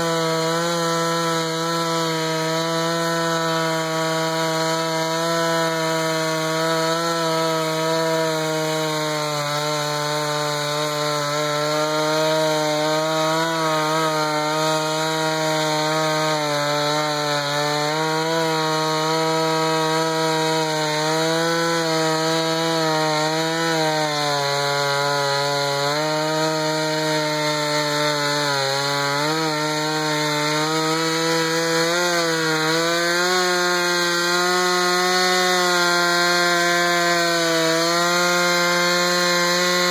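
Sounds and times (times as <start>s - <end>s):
chainsaw cutting wood at high revs: 0.0s - 39.9s.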